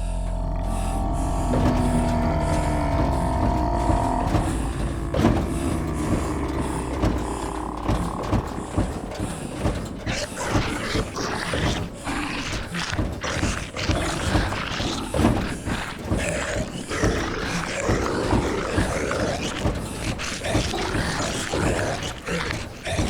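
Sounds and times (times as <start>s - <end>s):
rattling creaking and thuds: 0.0s - 23.0s
zombie groans: 0.0s - 23.0s.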